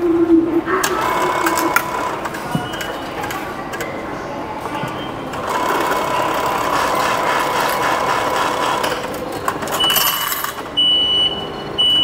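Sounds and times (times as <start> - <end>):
ticket machine whirring: 0.8 - 10.8.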